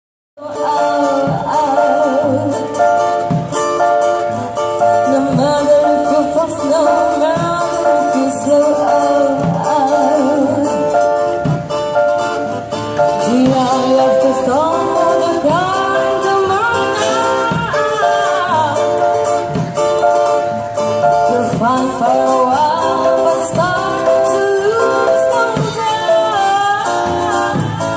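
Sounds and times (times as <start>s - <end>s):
person singing with vibrato: 0.4s - 11.5s, 12.2s - 20.2s, 21.0s - 27.9s
instrumental backing: 0.4s - 27.9s.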